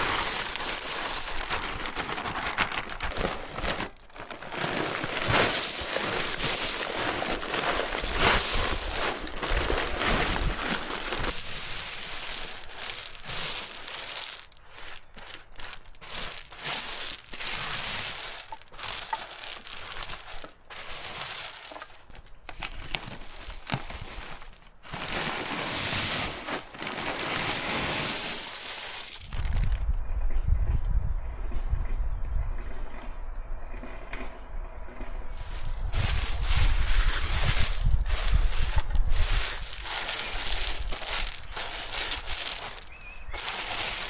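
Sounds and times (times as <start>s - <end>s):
dry material rustling and crunching: 0.0s - 29.8s, 35.3s - 44.0s.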